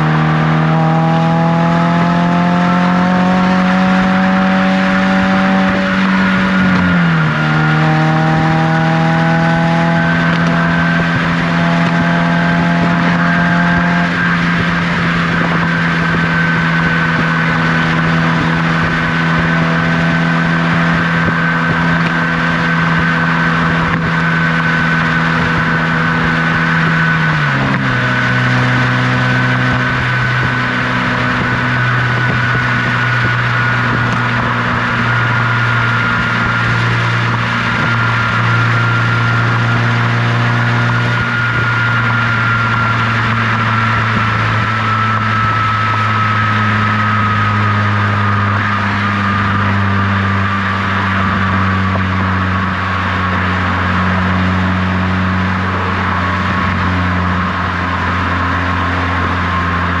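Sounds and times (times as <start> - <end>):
car exhaust drone: 0.0 - 60.0
thin high whine: 3.8 - 60.0.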